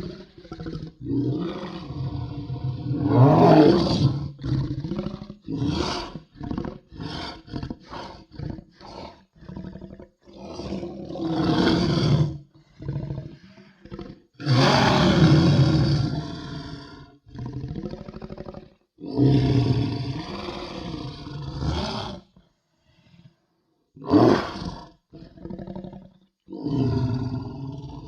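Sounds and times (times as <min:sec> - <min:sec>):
large animal roaring: 0:00.0 - 0:22.3, 0:24.0 - 0:28.0.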